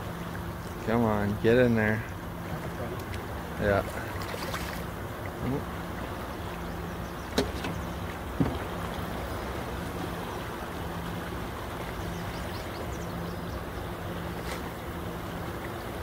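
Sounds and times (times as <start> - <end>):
water splashing beside boat: 0.0 - 16.0.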